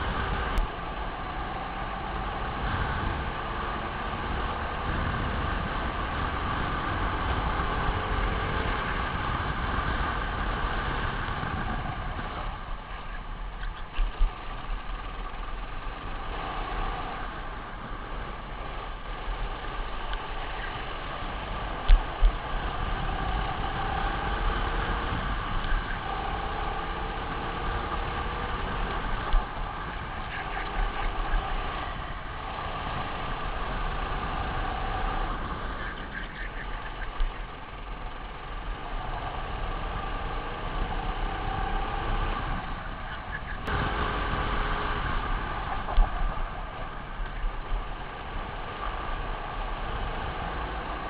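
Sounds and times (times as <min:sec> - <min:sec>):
kart engine running: 0:00.0 - 0:51.0.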